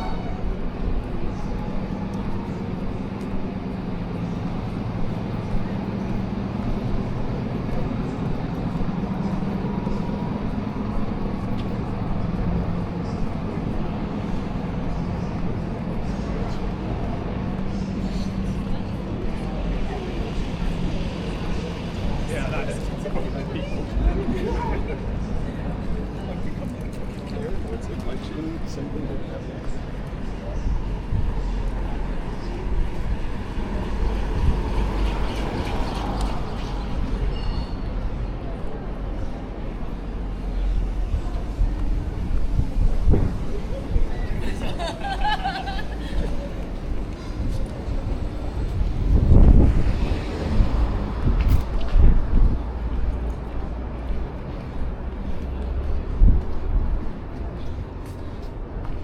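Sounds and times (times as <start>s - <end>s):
city traffic rumble: 0.0s - 59.0s.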